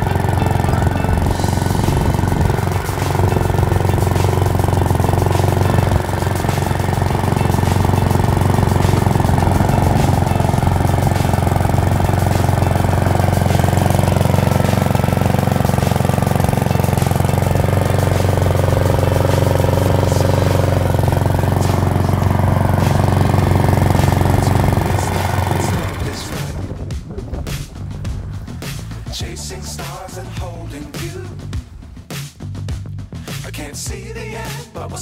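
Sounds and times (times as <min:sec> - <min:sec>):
lawnmower engine running: 0:00.0 - 0:32.0.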